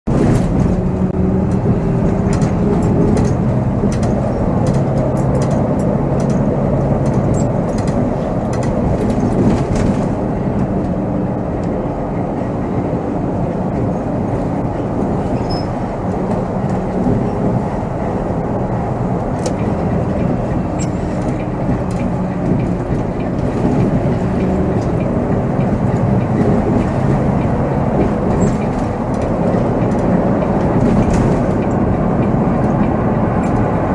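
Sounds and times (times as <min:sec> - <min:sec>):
coach engine drone: 0:00.0 - 0:33.9
road noise: 0:00.0 - 0:33.9.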